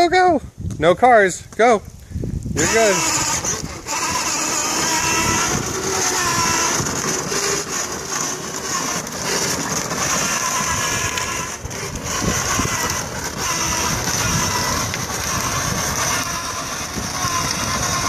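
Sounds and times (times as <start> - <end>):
wind rumble on microphone: 0.0 - 7.9, 8.6 - 18.0
plastic wheels rolling on asphalt: 2.2 - 18.0
electric motors whining: 2.6 - 18.0.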